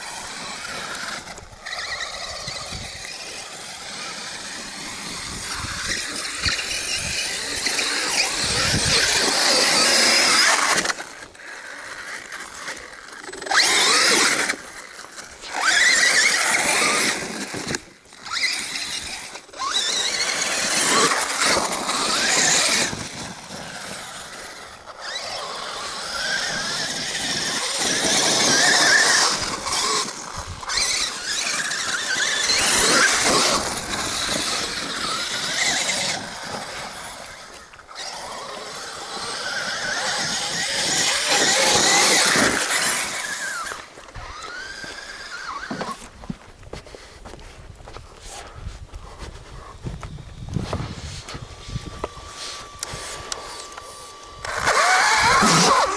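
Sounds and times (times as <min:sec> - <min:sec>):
electric motor whining: 0:00.0 - 0:46.2, 0:49.2 - 0:55.9.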